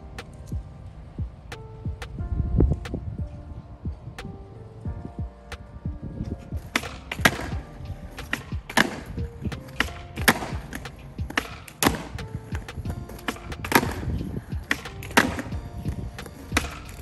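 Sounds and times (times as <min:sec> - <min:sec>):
skateboard wheels rolling on concrete: 0:00.0 - 0:17.0
music track with drum beat: 0:00.5 - 0:02.3, 0:04.9 - 0:17.0.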